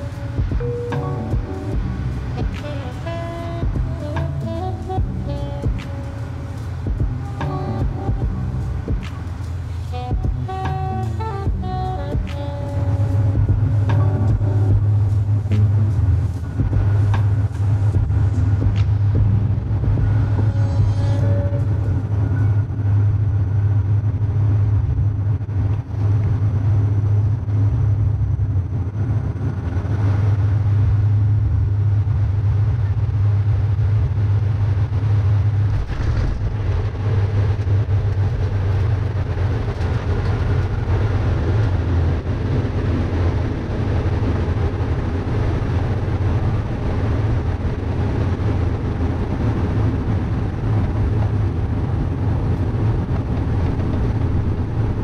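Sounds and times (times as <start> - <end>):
deep runway rumble: 0.0 - 55.0
turboprop engine drone: 0.0 - 55.0.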